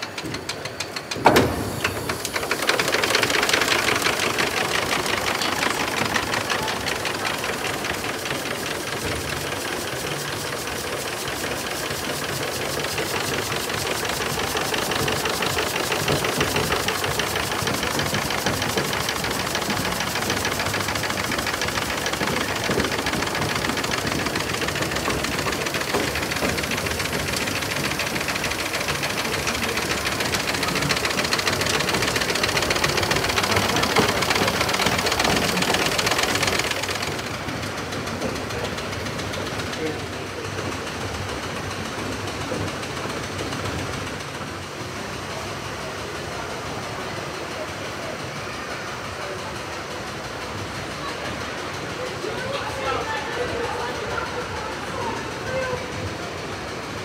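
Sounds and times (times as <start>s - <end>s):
steam engine mechanical clatter: 0.0s - 57.0s.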